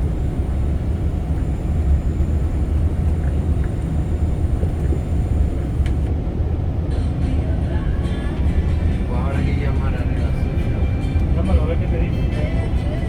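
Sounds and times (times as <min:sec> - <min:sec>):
coach engine and road rumble: 0:00.0 - 0:13.0.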